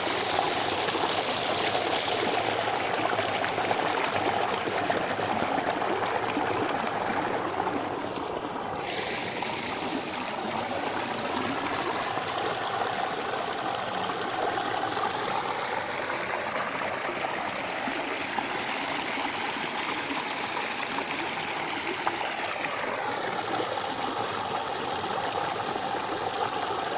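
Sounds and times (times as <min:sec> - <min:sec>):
water rushing in channel: 0:00.0 - 0:26.9.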